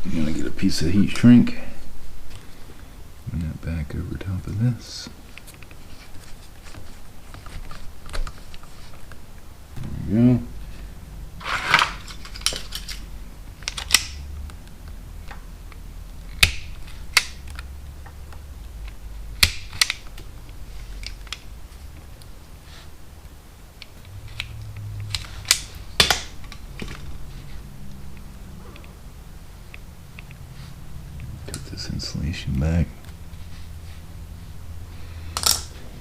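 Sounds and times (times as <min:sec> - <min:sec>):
faint low hum: 0:00.0 - 0:36.0.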